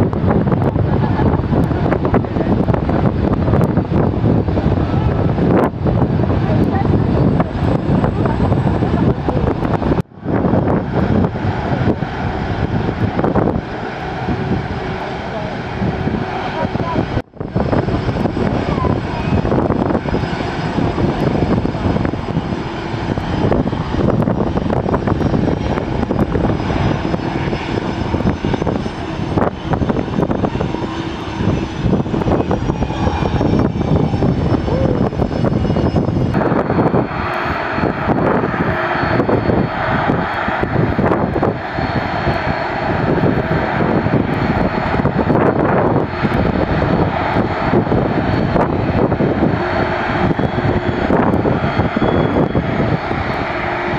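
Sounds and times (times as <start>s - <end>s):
aircraft engines running: 0.0s - 53.9s.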